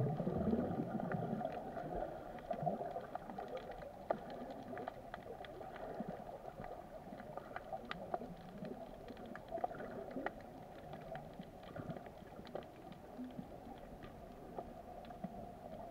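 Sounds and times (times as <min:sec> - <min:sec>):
muffled underwater rush: 0:00.0 - 0:15.9
underwater clicks and crackles: 0:00.0 - 0:15.9.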